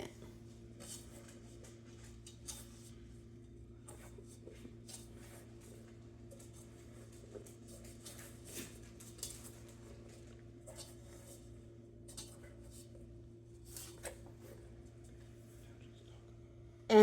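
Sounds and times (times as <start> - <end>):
hands kneading dough: 0.0 - 16.4
low steady hum: 0.0 - 17.0.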